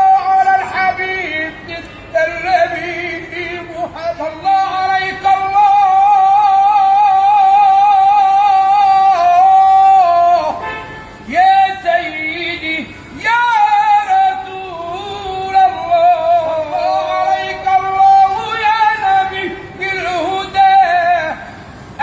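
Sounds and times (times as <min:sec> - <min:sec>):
man singing ornamented melody: 0:00.0 - 0:10.6, 0:11.2 - 0:22.0.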